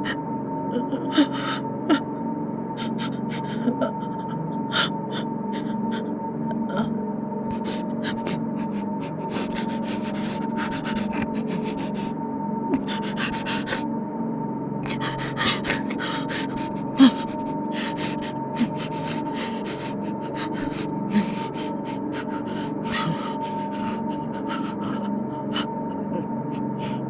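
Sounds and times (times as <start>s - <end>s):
woman rasping breathing: 0.0s - 2.0s, 2.8s - 6.1s, 7.5s - 13.9s, 14.8s - 27.0s
steady low hum: 0.0s - 27.0s.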